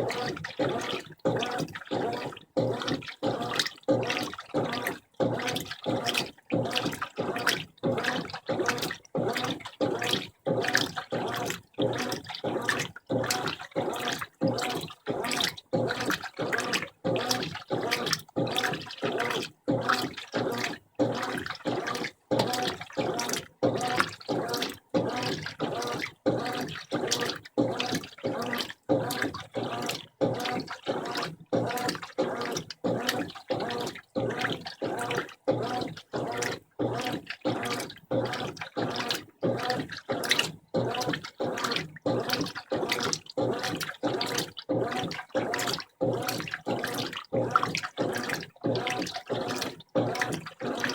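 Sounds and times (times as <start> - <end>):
washing machine sloshing water: 0.0 - 50.9.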